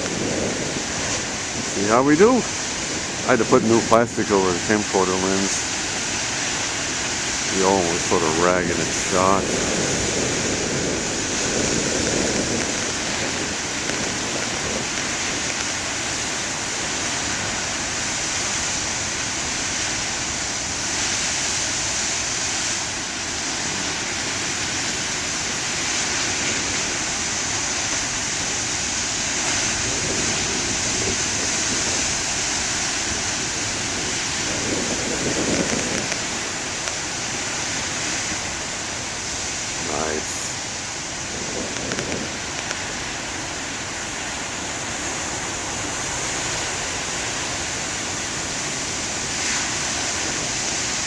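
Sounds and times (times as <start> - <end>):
ocean surf breaking: 0.0 - 51.0.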